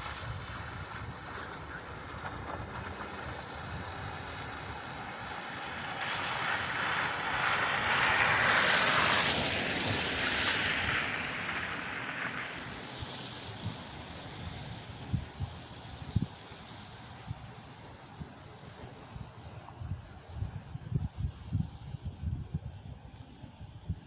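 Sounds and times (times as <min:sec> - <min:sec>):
tyres hissing through slush: 0:00.0 - 0:20.8.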